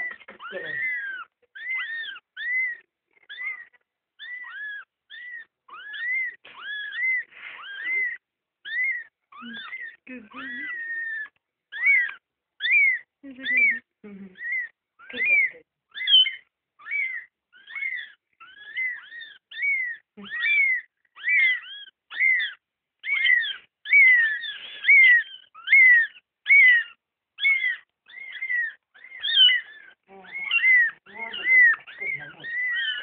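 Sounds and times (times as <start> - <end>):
kittens mewing: 0.0 - 33.0.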